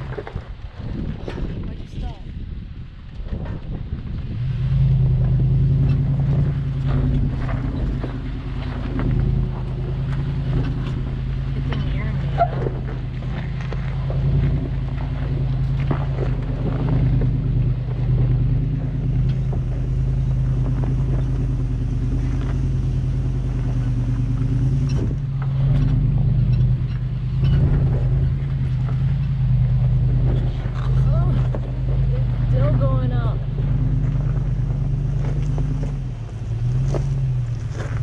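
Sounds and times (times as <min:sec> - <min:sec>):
suv engine running: 0:00.0 - 0:38.0
knocks and clunks: 0:04.7 - 0:38.0.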